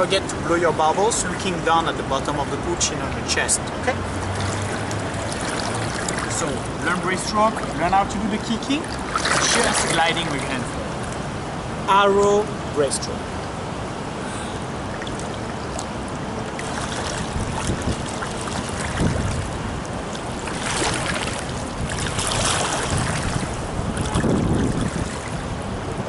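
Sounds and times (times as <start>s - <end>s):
pool water splashing: 0.0s - 26.0s
steady wash of water: 0.0s - 26.0s.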